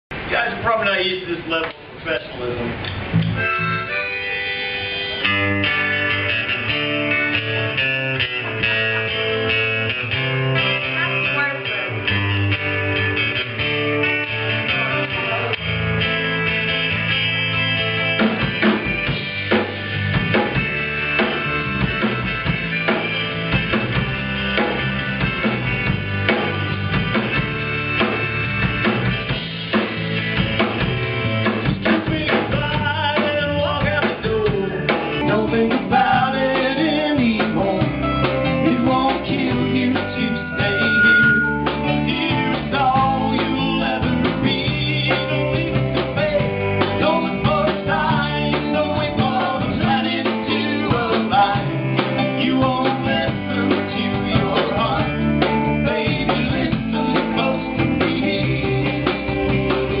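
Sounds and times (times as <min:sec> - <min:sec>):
guitar: 0:00.1 - 1:00.0
drum kit: 0:02.6 - 1:00.0.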